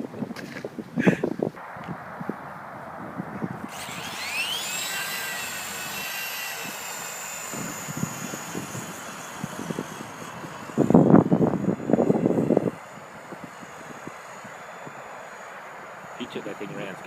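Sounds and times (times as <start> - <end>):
wind on microphone: 0.0 - 17.0
rc helicopter motor whine: 1.6 - 17.0.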